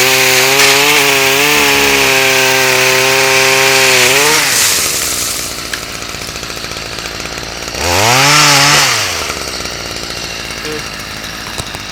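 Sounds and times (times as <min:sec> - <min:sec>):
chainsaw idling and revving: 0:00.0 - 0:11.9.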